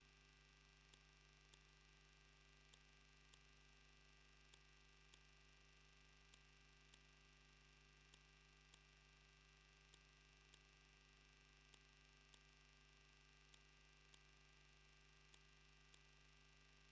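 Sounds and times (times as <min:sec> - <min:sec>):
faint electrical hum: 0:00.0 - 0:16.9
faint ticks in pairs: 0:00.0 - 0:16.9.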